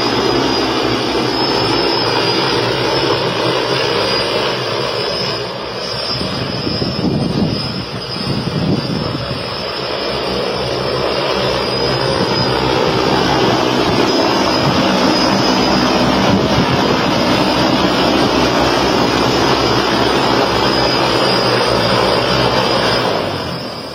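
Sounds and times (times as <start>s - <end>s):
aircraft propellers whirring drone: 0.0s - 23.9s.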